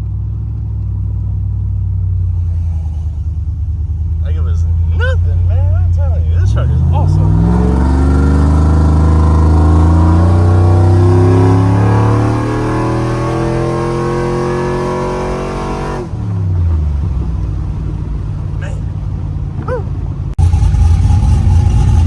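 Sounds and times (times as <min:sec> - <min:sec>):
pickup truck engine accelerating: 0:00.0 - 0:22.0.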